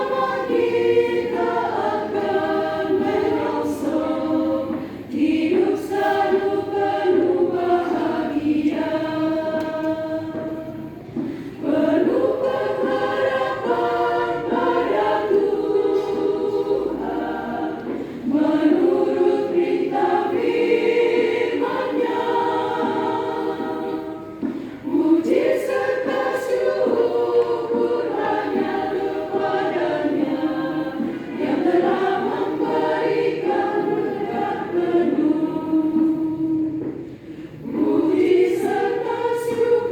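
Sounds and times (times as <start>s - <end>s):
congregation choir singing: 0.0s - 39.9s.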